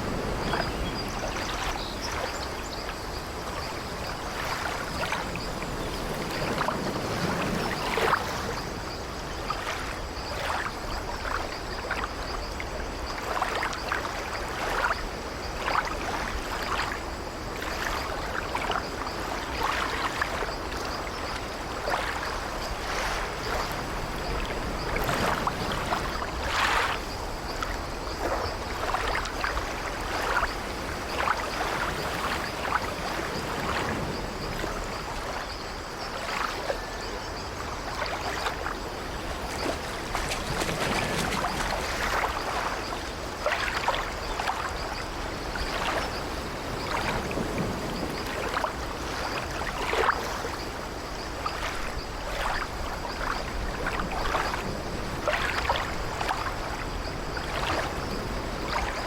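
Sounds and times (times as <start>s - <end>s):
sea waves washing against ship: 0.0s - 59.0s.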